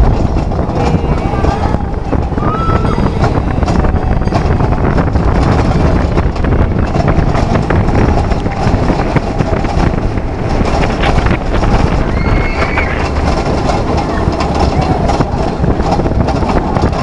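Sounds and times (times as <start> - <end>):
roller coaster rumble and rattle: 0.0 - 17.0
wind buffeting microphone: 0.0 - 17.0.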